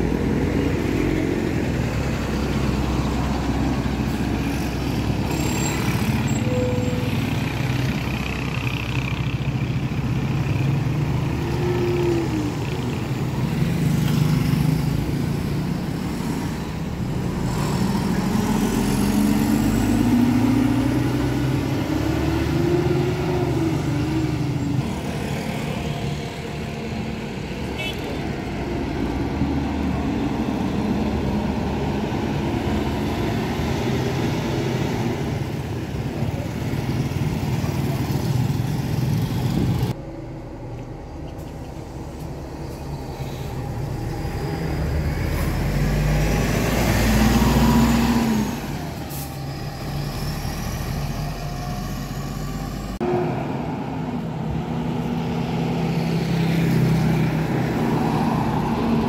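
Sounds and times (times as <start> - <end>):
heavy road traffic: 0.0 - 59.0.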